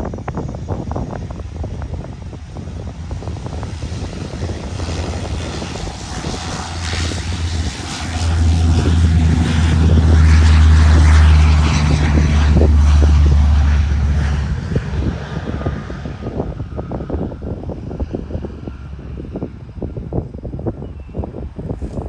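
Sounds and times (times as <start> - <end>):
high engine whine: 0.0 - 22.0
turboprop engines droning: 0.0 - 22.0.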